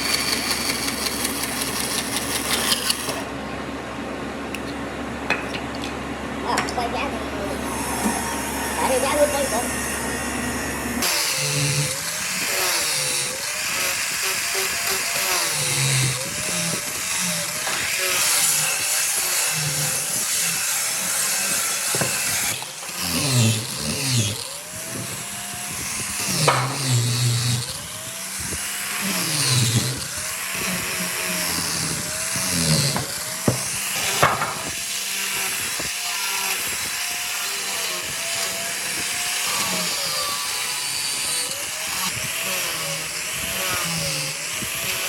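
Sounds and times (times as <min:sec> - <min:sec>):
power tool cutting wood: 0:00.0 - 0:03.3, 0:07.4 - 0:45.0.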